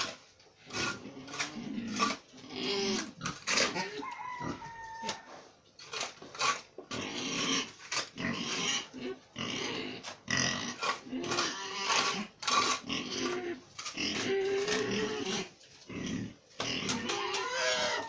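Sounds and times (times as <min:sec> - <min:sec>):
pigs grunting and calling: 0:00.0 - 0:05.3, 0:06.0 - 0:18.0.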